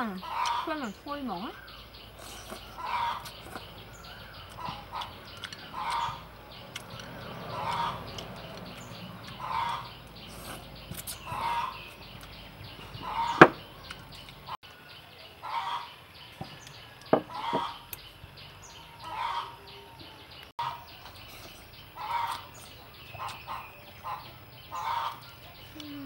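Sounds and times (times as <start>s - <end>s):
chickens clucking: 0.0s - 14.6s, 15.2s - 26.0s.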